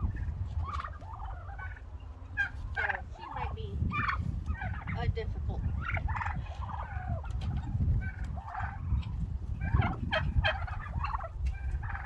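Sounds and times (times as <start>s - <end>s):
steady low rumble: 0.0s - 12.0s
turkeys gobbling and yelping: 0.0s - 12.0s.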